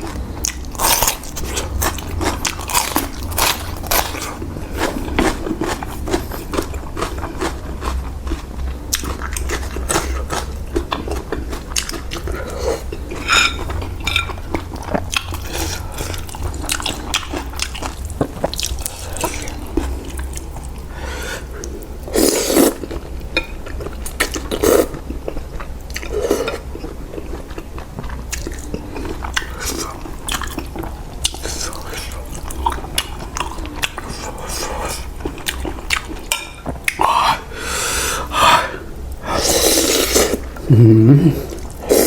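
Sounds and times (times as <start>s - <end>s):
chewing and slurping: 0.0s - 37.2s.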